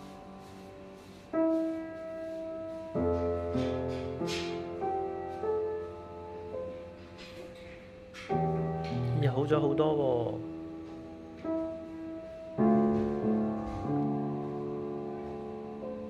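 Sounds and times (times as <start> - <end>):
piano played slowly: 0.0 - 16.0.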